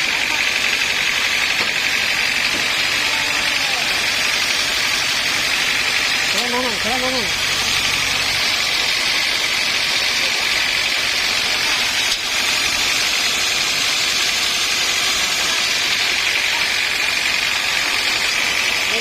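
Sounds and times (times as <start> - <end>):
saw cutting through log: 0.0 - 19.0.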